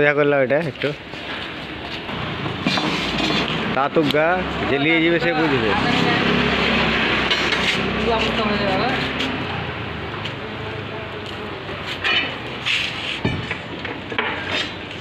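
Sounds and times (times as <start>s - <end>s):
street noise with voices: 0.0s - 15.0s
engine hum: 1.7s - 14.2s.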